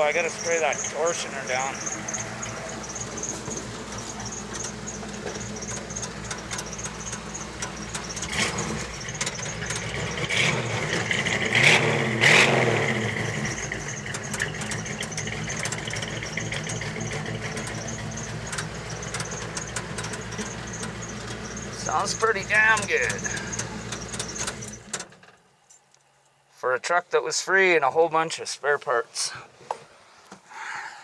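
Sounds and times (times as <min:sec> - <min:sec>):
truck engine idling and revving: 0:00.0 - 0:25.1.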